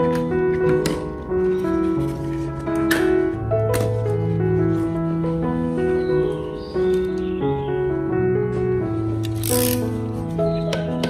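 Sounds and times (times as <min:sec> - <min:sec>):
instrumental music: 0:00.0 - 0:11.0.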